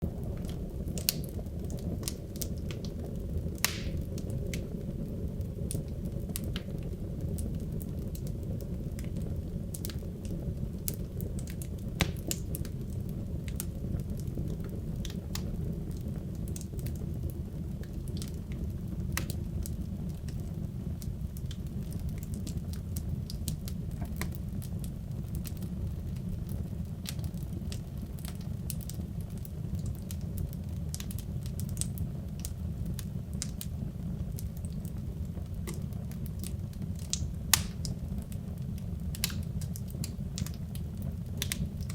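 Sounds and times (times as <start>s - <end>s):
fire rumbling: 0.0s - 41.9s
wood crackling and popping: 0.0s - 41.9s.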